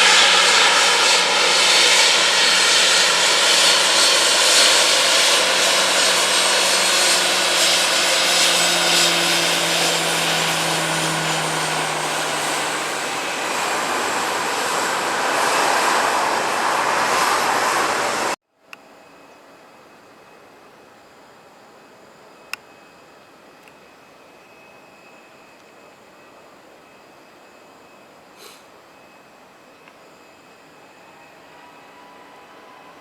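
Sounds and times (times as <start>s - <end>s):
airliner engines roaring: 0.0s - 18.4s, 19.1s - 33.0s.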